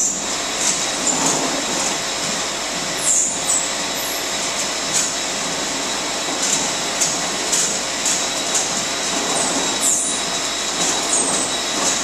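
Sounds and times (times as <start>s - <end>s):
processing machinery running: 0.0s - 12.0s.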